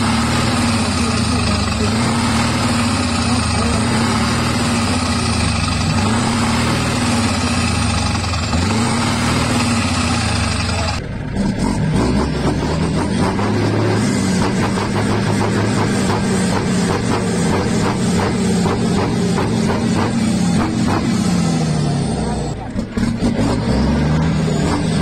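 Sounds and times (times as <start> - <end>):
engine with pulsing exhaust: 0.0 - 25.0
truck engine running loud: 0.0 - 25.0.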